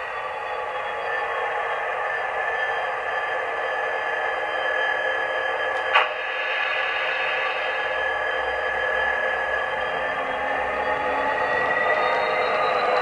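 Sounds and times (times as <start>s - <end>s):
model train diesel engine sound: 0.0s - 13.0s.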